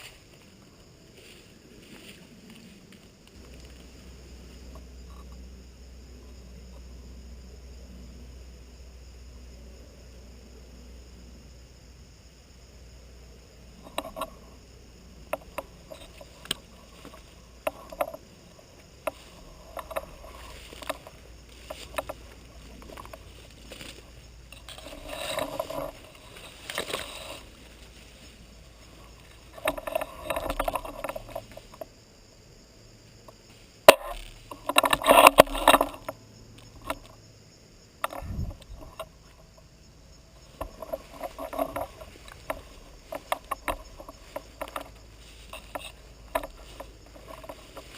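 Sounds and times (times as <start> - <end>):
rustling and scraping: 0.0 - 5.5, 13.7 - 32.4, 33.0 - 37.3, 38.0 - 47.9.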